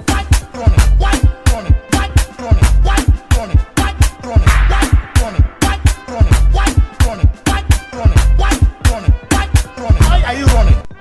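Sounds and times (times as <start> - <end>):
afrobeat music with drums and bass: 0.0 - 11.0.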